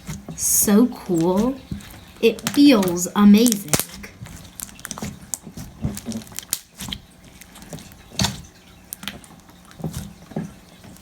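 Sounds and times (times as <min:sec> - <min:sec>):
slime crackling and popping: 0:01.1 - 0:10.2.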